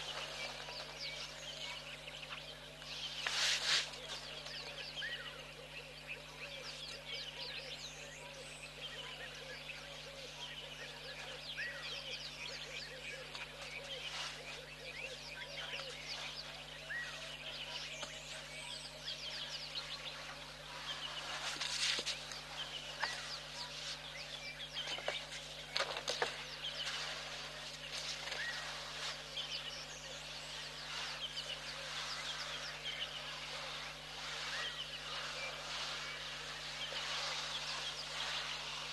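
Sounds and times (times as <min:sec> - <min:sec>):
birds chirping and calling: 0:00.0 - 0:38.9
steady low hum: 0:00.0 - 0:38.9.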